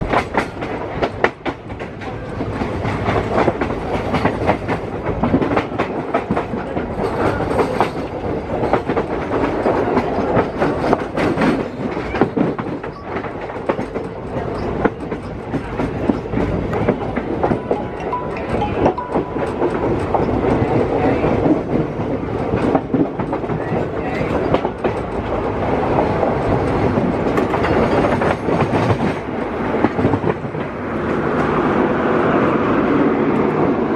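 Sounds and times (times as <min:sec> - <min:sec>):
train wheels clattering on rails: 0:00.0 - 0:18.0, 0:19.7 - 0:31.8.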